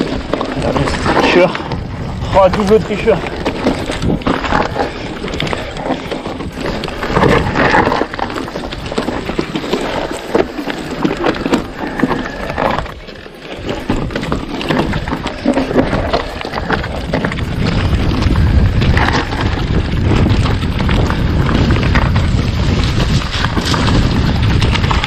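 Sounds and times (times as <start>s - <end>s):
mountain bike rattling on trail: 0.0s - 25.0s.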